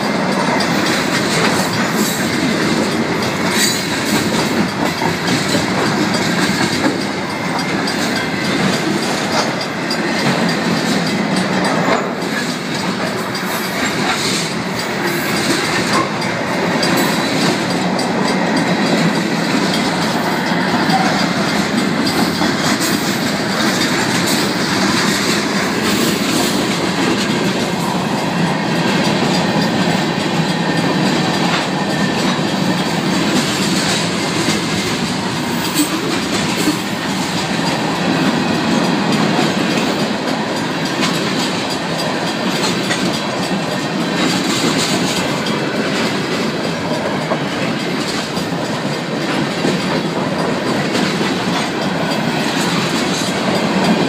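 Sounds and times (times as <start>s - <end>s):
crossing bells ringing: 0.0s - 54.0s
train wheels clickety-clack: 0.0s - 54.0s.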